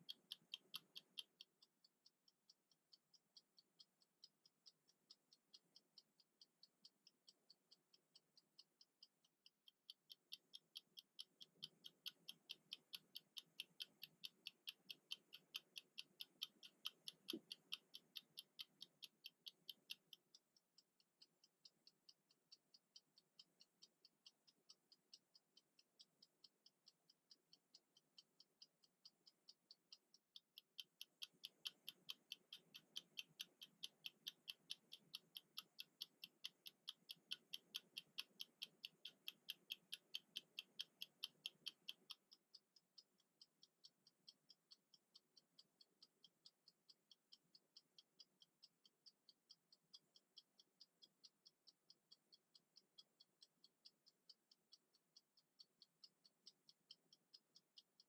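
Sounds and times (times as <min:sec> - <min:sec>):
kitchen timer ticking: 0:00.0 - 0:58.0.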